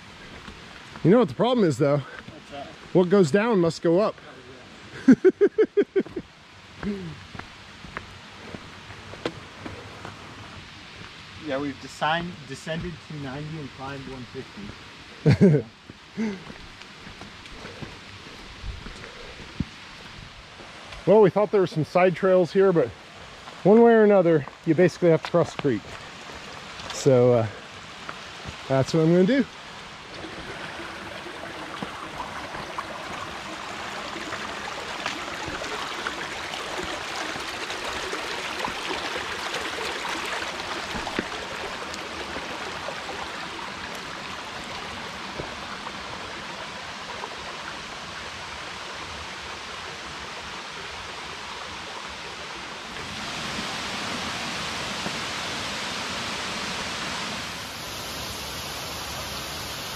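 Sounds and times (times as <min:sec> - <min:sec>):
creek water running over rocks: 0:00.0 - 0:59.9.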